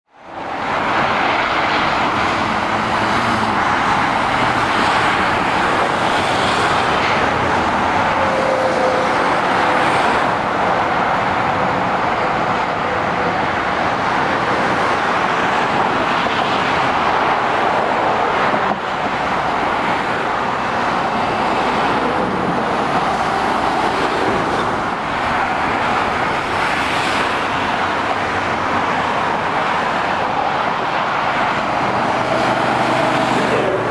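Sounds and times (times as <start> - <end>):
motorway traffic noise: 0.0 - 33.9.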